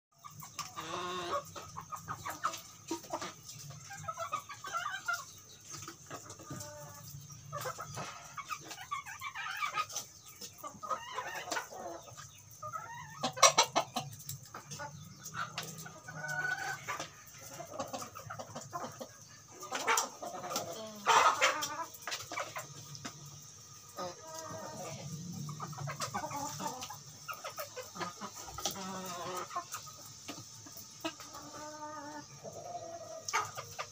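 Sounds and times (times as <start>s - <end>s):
chickens clucking and calling: 0.1s - 33.9s.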